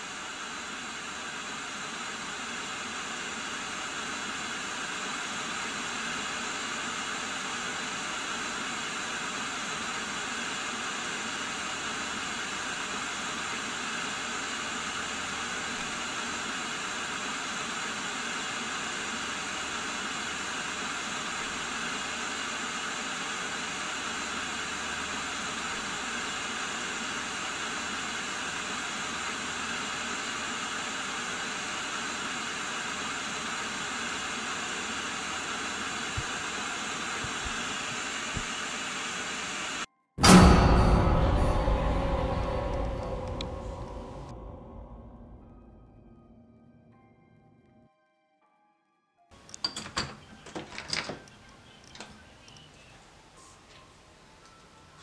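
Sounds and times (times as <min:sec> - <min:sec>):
television static hiss: 0:00.0 - 0:39.9, 0:49.4 - 0:55.0.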